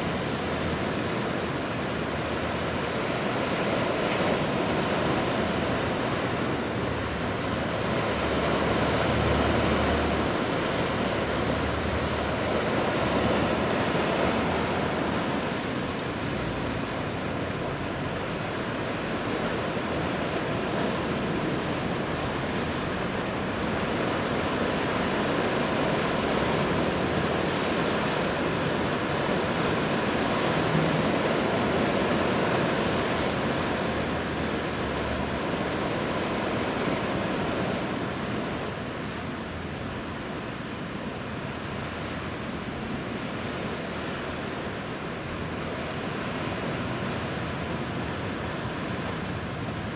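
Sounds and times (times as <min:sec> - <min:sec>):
waves washing: 0:00.0 - 0:49.9.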